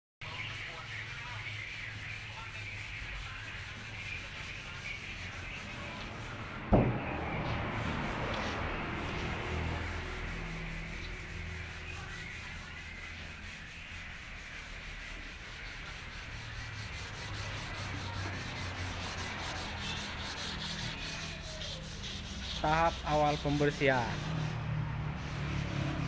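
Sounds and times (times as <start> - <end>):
sanding on car bodywork: 0.2 - 26.0.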